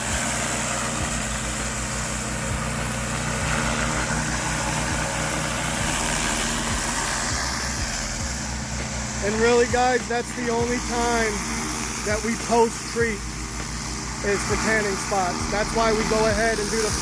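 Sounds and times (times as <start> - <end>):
high-pressure water spray hissing: 0.0 - 17.0
petrol engine running: 0.0 - 17.0.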